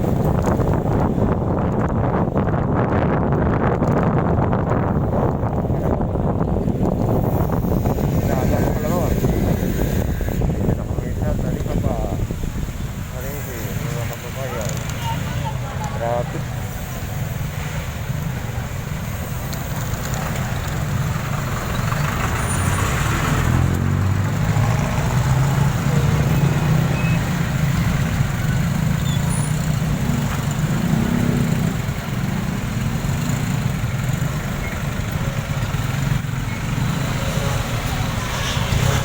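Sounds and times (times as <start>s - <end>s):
motorcycle engine rumble: 0.0s - 39.0s
road noise: 0.0s - 39.0s.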